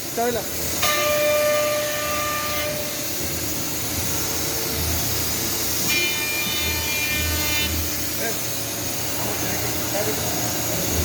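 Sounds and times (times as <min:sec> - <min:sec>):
high machine whine: 0:00.0 - 0:11.0
machinery hissing with low pulsing: 0:00.0 - 0:11.0.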